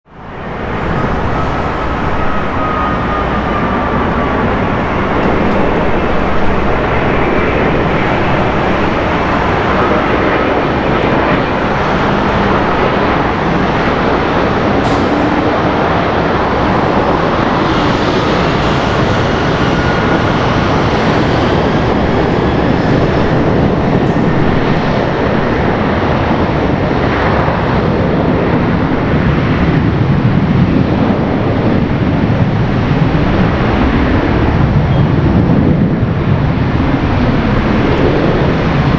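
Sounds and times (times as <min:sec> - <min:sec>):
faint gliding engine whines: 0:00.1 - 0:38.9
jet engines roaring: 0:00.1 - 0:38.9.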